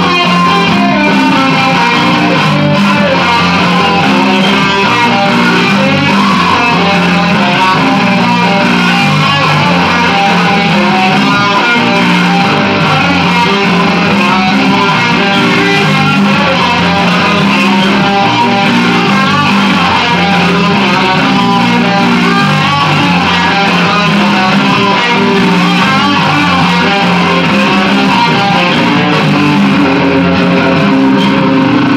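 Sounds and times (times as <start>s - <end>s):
electric guitar rock song: 0.0s - 31.9s.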